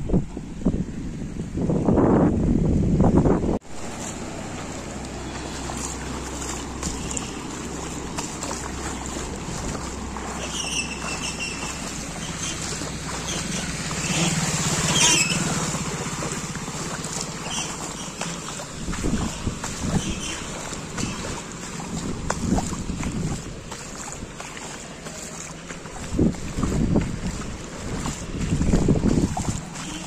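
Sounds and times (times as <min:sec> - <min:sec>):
water splashing around wheels: 0:00.0 - 0:30.0
vehicle engines running: 0:03.2 - 0:30.0.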